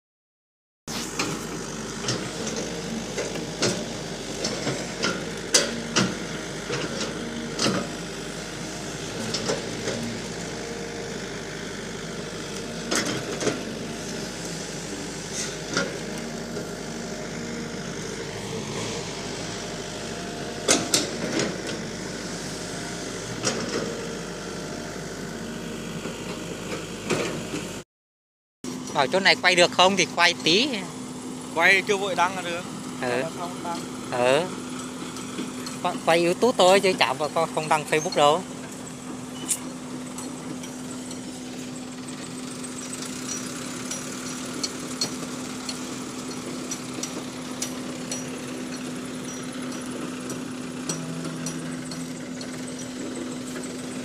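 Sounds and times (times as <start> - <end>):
excavator diesel engine running: 0.9 - 27.8, 28.7 - 54.0.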